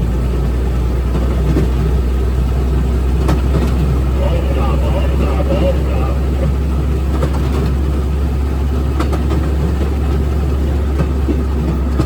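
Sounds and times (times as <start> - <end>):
rail vehicle motor rumble: 0.0 - 12.0
rail clicks: 1.1 - 12.0.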